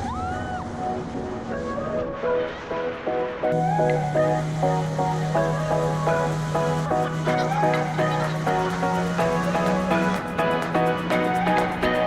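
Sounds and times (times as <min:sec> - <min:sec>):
background music with steady beat: 0:00.8 - 0:12.0.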